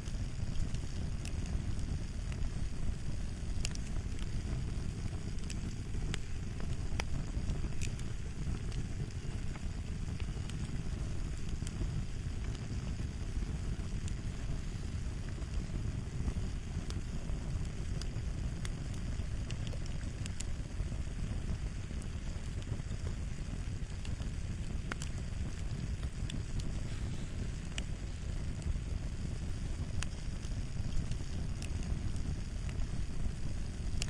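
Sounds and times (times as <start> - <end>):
fire crackling: 0.0 - 34.0
fire popping and snapping: 0.0 - 34.0.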